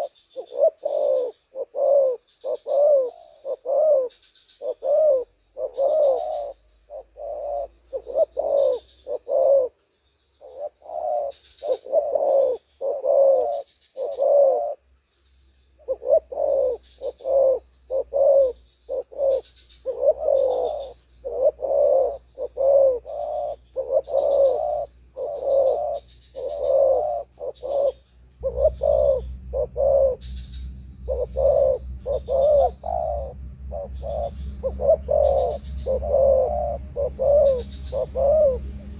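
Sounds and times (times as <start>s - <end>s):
doves cooing: 0.0s - 9.8s, 10.4s - 14.8s, 15.8s - 38.9s.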